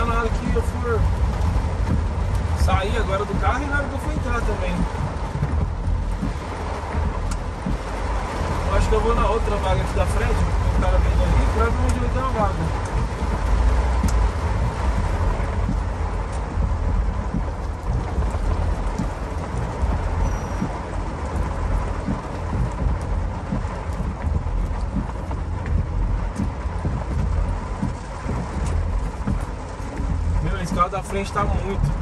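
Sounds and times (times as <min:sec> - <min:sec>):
car engine and tyres rumbling: 0:00.0 - 0:32.0
light ticks: 0:01.2 - 0:32.0.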